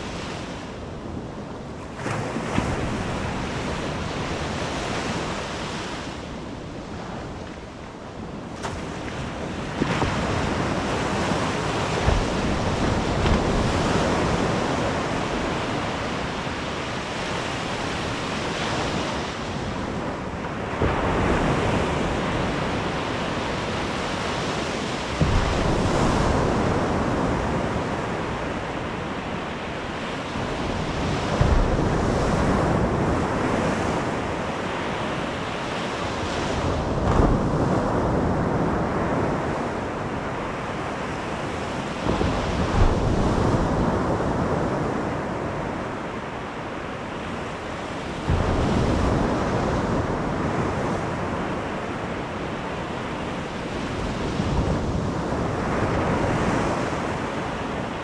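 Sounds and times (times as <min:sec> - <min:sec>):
sea waves breaking on beach: 0:00.0 - 0:58.0
wind buffeting microphone: 0:00.0 - 0:58.0.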